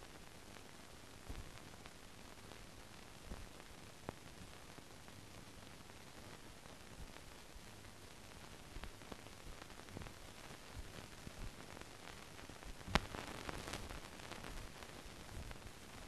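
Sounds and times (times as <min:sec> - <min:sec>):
crackles and pops: 0:00.0 - 0:16.0
film surface hiss: 0:00.0 - 0:16.0.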